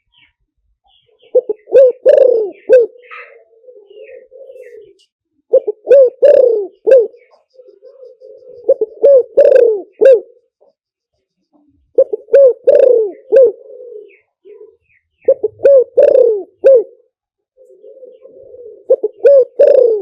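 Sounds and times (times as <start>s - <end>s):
dove cooing: 1.2s - 10.6s, 11.9s - 20.0s.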